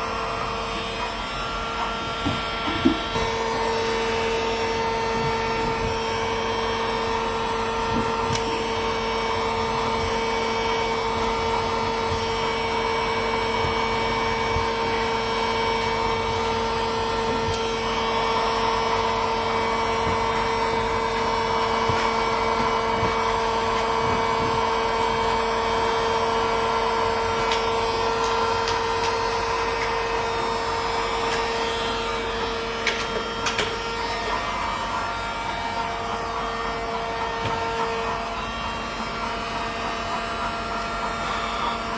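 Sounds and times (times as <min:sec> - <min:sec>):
hot-air welding gun whine: 0:00.0 - 0:41.9.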